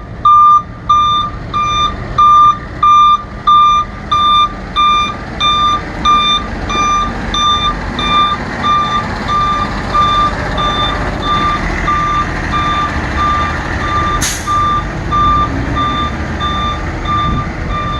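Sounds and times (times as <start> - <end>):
diesel engine running: 0.0 - 17.9
truck warning alarm beeping: 0.0 - 17.9.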